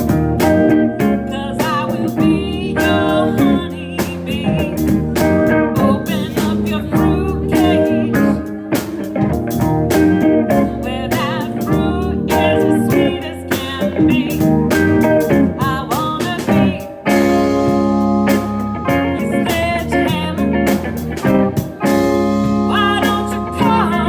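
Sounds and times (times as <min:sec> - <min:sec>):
guitars: 0:00.0 - 0:24.0
steady drum beat: 0:00.0 - 0:24.0.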